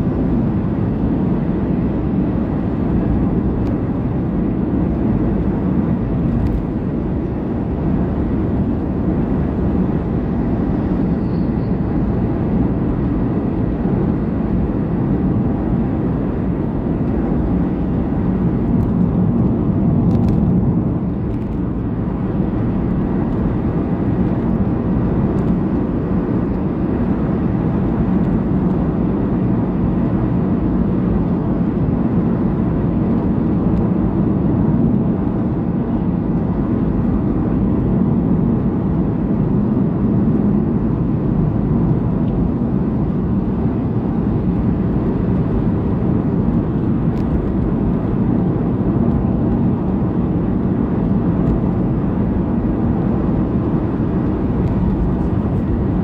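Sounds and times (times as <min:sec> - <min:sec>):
car driving on highway: 0:00.0 - 0:56.0.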